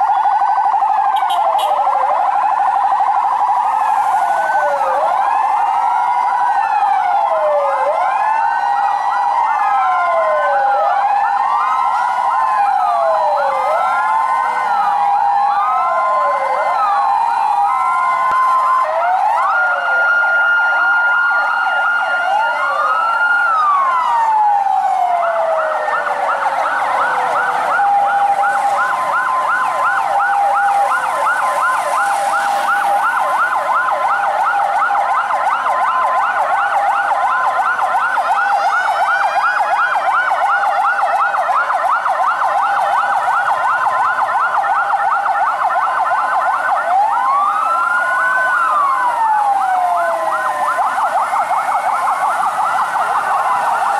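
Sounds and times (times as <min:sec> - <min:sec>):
siren fast yelp: 0:00.0 - 0:53.9
slow wailing siren: 0:00.0 - 0:53.9
two-tone hi-lo siren: 0:00.0 - 0:53.9.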